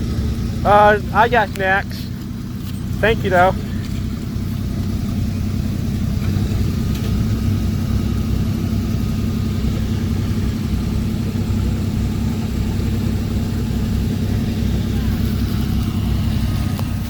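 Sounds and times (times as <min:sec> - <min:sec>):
pickup engine running: 0:00.0 - 0:17.0.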